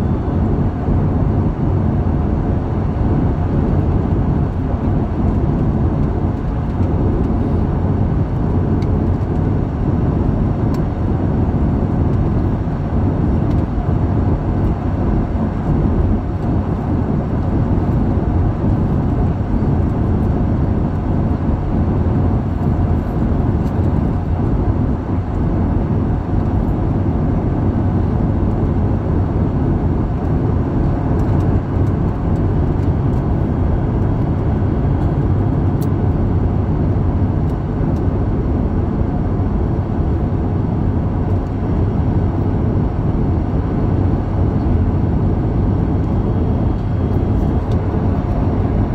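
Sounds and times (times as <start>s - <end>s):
jet engines rumbling: 0.0s - 48.9s.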